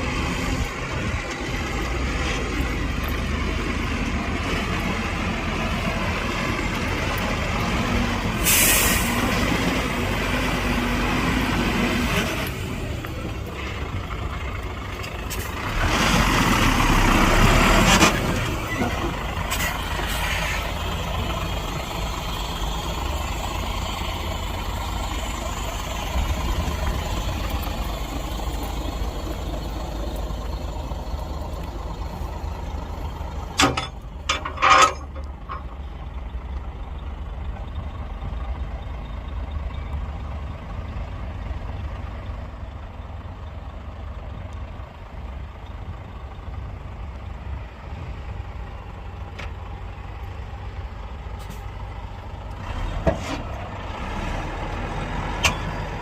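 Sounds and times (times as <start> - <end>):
heavy diesel engines rumbling: 0.0 - 56.0.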